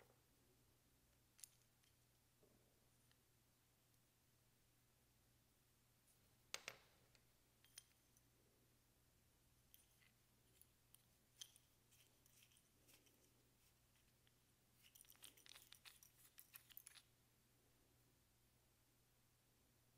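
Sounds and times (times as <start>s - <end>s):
faint low hum: 0.0s - 19.9s.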